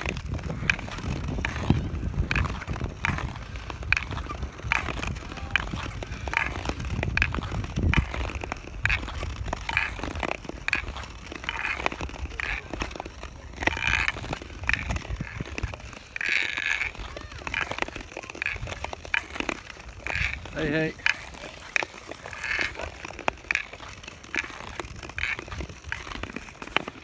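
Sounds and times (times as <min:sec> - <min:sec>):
ice skate blades scraping: 0:00.0 - 0:27.0.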